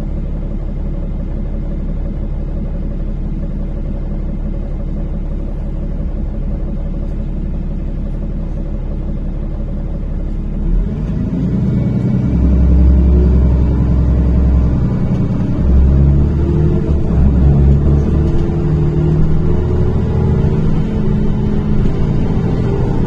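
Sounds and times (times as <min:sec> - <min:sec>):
bus engine accelerating: 0:04.3 - 0:23.0.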